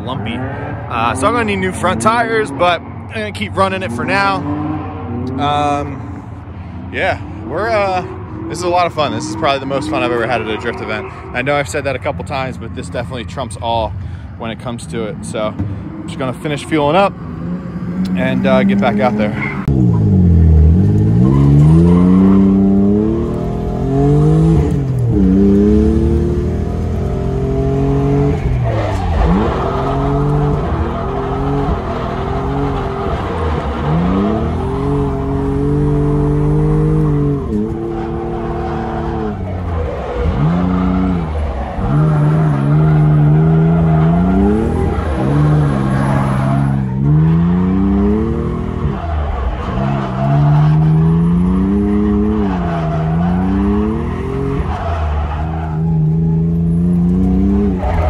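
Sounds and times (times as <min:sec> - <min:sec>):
tyres squealing and skidding: 0:00.0 - 0:06.1, 0:07.1 - 0:13.8, 0:15.2 - 0:20.2, 0:21.0 - 0:58.0
car engine revving: 0:00.0 - 0:13.6, 0:14.5 - 0:58.0.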